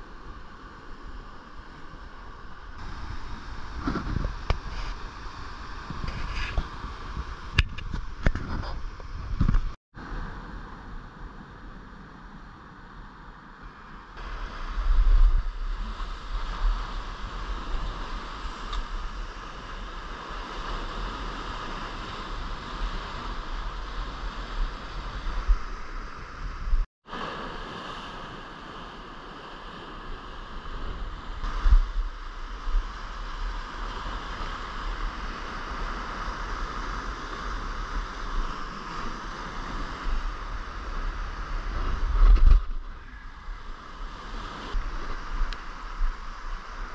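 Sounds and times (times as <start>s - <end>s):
wind buffeting microphone: 0.0s - 11.9s, 14.2s - 27.9s, 29.7s - 46.9s.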